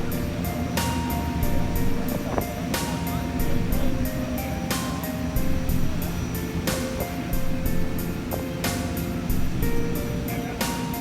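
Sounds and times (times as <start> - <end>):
heavy cymbal stroke: 0.0 - 11.0
held melody notes: 0.0 - 11.0
low bass: 0.0 - 11.0.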